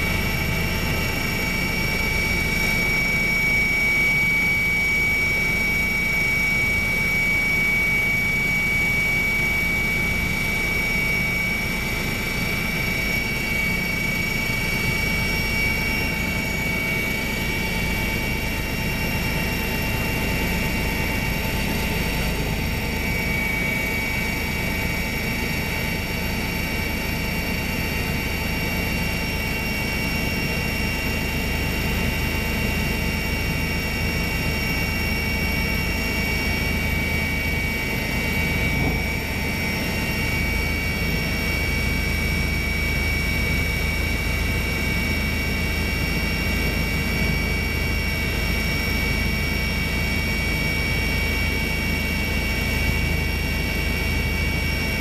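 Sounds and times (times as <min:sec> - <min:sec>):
helicopter running: 0:00.0 - 0:55.0.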